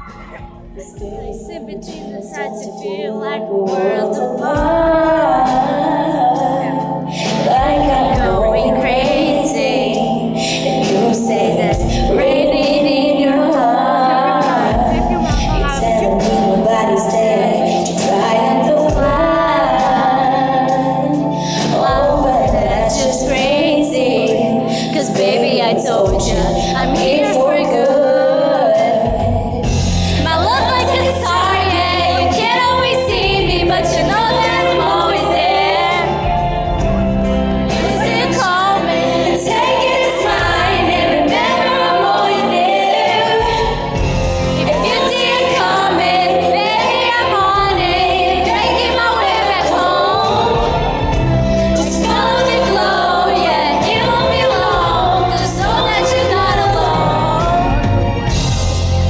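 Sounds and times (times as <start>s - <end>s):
sustained bass notes: 0.0s - 2.2s, 4.4s - 28.2s, 28.8s - 59.0s
band accompaniment: 0.0s - 2.4s, 6.4s - 13.5s, 14.2s - 28.1s, 28.7s - 59.0s
woman singing pop ballad: 0.0s - 58.8s.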